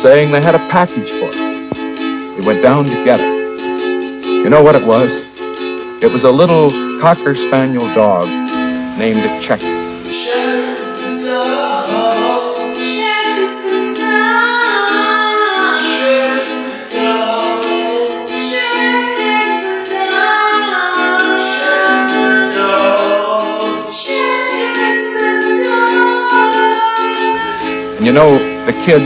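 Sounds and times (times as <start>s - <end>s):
song with sung melody: 0.0s - 29.0s.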